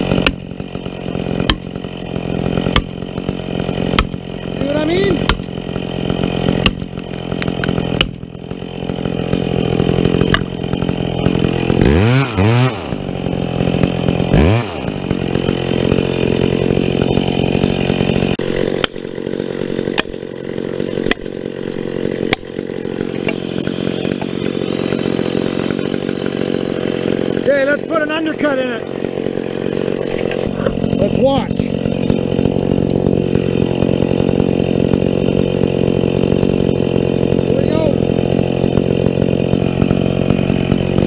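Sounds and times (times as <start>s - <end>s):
chainsaw cutting into tree: 0.0s - 41.0s.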